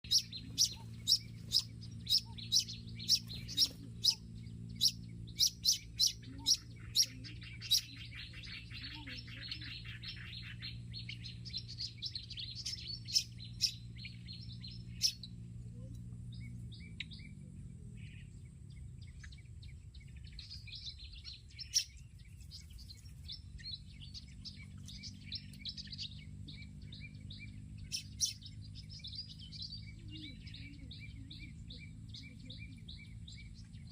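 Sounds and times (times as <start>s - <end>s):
steady low hum: 0.0s - 33.9s
sunbird chirping and twittering: 0.0s - 33.9s.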